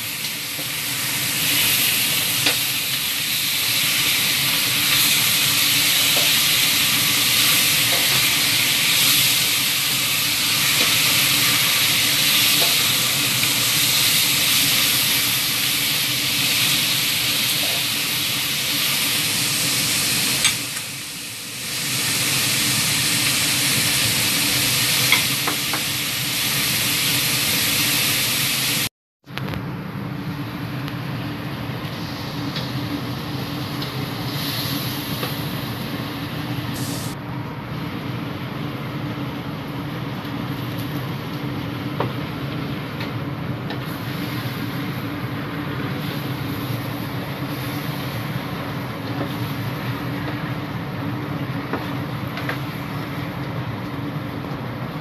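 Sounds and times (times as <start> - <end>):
chicken sizzling in a wok: 0.0 - 28.9, 30.4 - 55.0.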